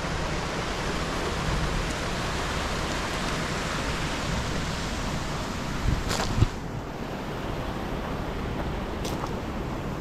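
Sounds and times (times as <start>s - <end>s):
mountain stream rushing water: 0.0s - 10.0s.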